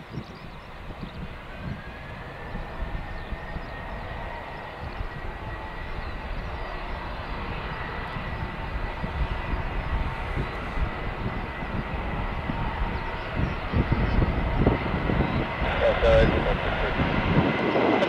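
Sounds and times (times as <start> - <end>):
jet engines rumbling with whine: 0.0 - 18.0.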